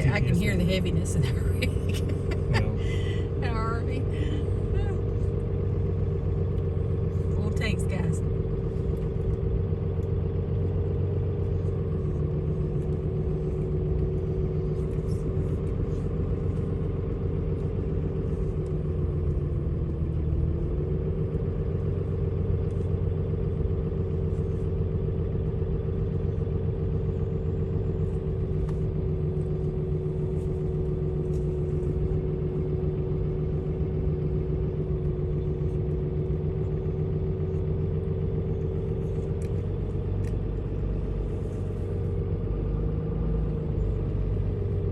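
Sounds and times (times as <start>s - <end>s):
road noise: 0.0s - 44.9s
truck engine drone: 0.0s - 44.9s.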